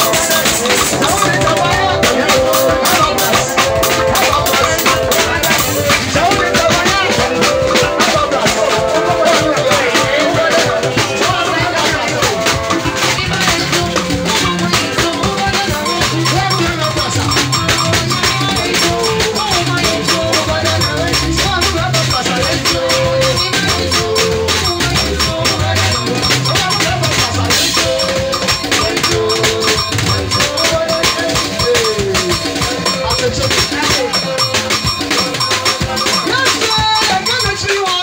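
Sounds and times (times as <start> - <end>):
dance music: 0.0 - 38.0.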